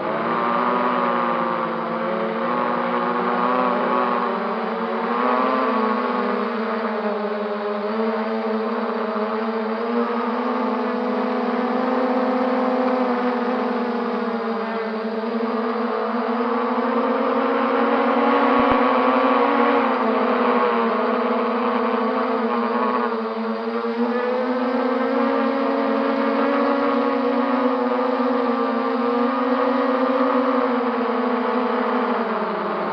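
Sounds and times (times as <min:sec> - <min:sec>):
quadcopter propellers buzzing: 0:00.0 - 0:32.9.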